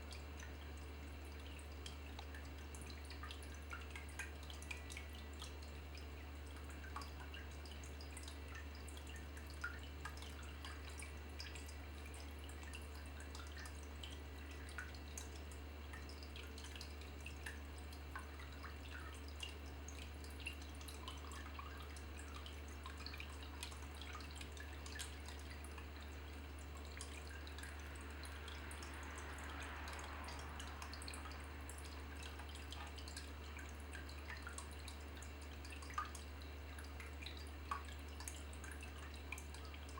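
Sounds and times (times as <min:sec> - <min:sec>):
steady low hum: 0:00.0 - 0:39.9
water dripping: 0:00.0 - 0:39.9
water trickling: 0:00.0 - 0:39.9.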